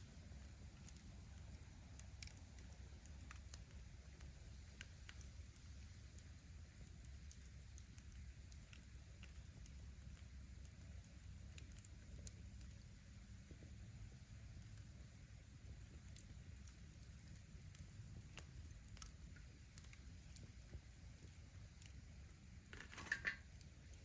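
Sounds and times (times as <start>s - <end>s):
wood bonfire crackling: 0.0s - 24.0s.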